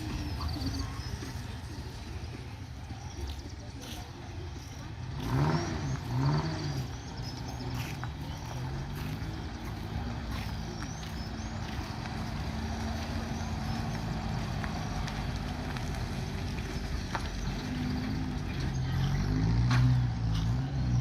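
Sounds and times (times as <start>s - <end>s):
truck engine running steadily: 0.0s - 21.0s.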